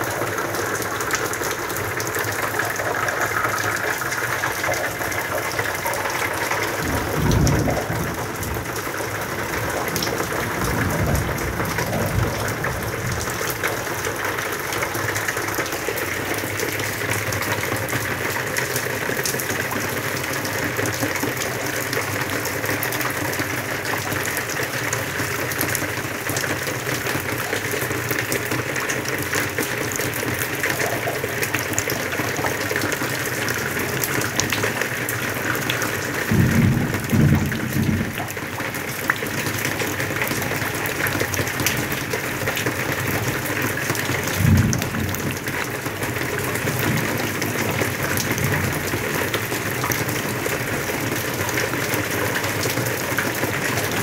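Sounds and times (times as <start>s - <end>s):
steady rain on concrete: 0.0s - 54.0s.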